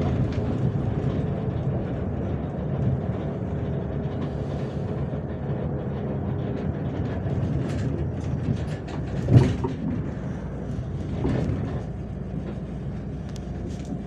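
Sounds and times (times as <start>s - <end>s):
body rattles and clicks: 0.0s - 14.0s
bus engine and road rumble: 0.0s - 14.0s.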